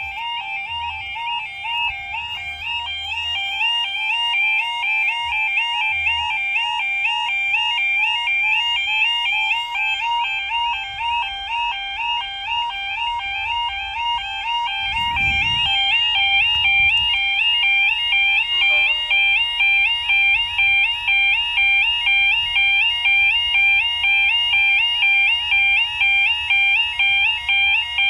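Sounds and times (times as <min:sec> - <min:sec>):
level crossing alarms warbling: 0:00.0 - 0:28.0.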